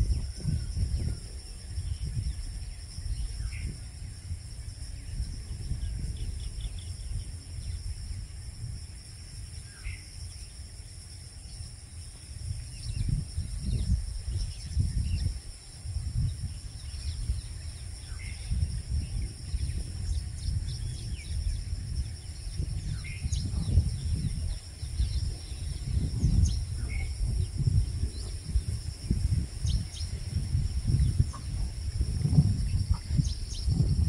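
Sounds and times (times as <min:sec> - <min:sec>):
high insect drone: 0:00.0 - 0:34.0
low uneven rumble: 0:00.0 - 0:34.0.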